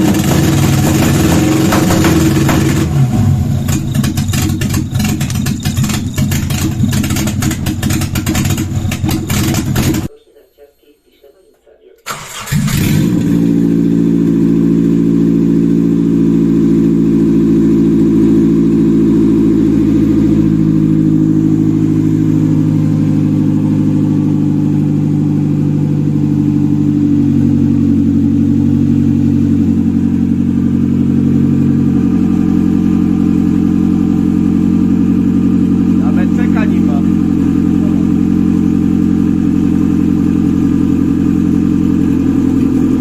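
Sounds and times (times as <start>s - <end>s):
car engine idling: 0.0s - 10.2s, 12.0s - 43.0s.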